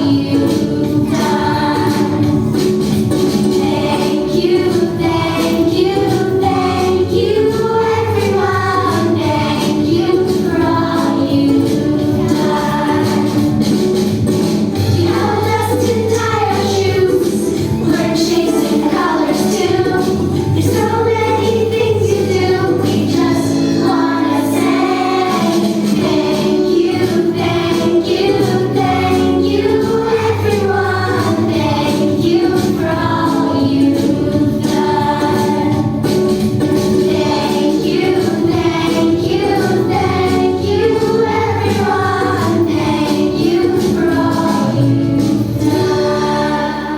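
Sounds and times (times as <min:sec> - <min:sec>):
group singing: 0:00.0 - 0:46.9
instrumental accompaniment: 0:00.0 - 0:46.9.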